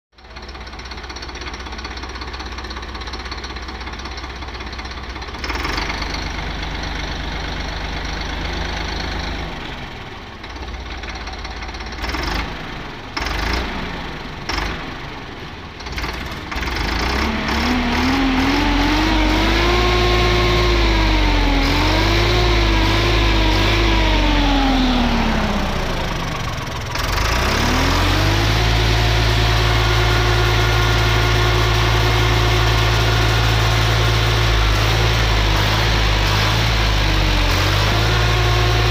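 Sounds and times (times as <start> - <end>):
tractor diesel engine: 0.1 - 38.9.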